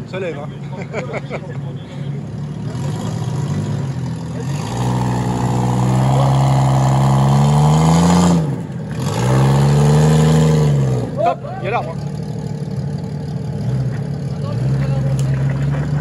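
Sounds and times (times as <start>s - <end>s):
engine revving under load: 2.2s - 16.0s.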